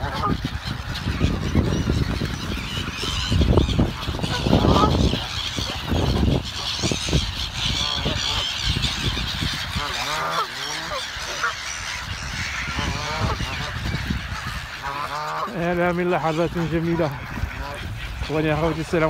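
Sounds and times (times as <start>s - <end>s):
geese honking: 0.0s - 19.0s
gulls chattering: 0.0s - 19.0s
wind rumble on microphone: 0.0s - 19.0s.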